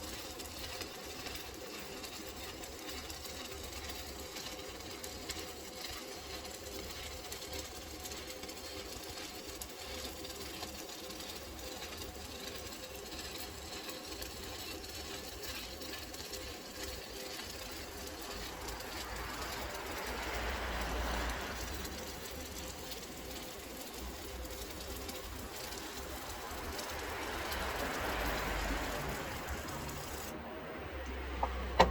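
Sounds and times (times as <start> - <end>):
electric welding crackling hiss: 0.0 - 30.3.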